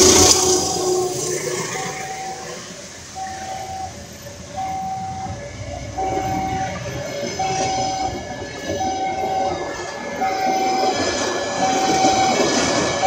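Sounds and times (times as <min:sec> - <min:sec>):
crossing alarm beeping: 0:00.0 - 0:13.0
train wheels clattering on rails: 0:00.0 - 0:13.0.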